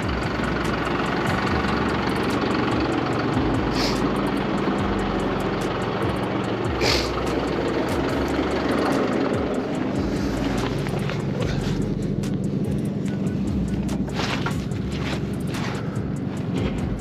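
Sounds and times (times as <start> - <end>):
car engine running: 0.0 - 17.0
tractor engine running: 0.0 - 17.0.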